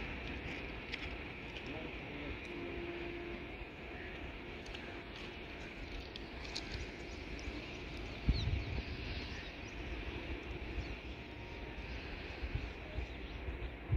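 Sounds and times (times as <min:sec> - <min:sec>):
electric locomotives rumbling: 0:00.0 - 0:13.9.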